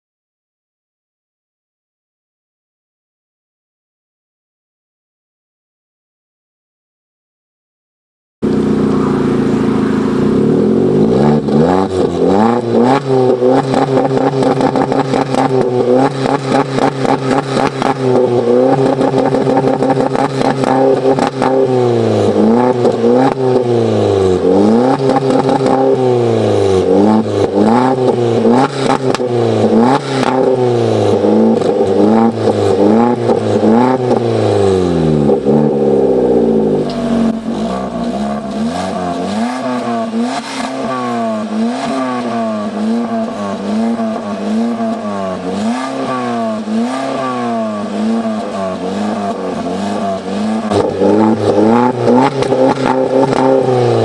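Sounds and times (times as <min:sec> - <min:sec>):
car engine revving: 0:08.4 - 0:54.0.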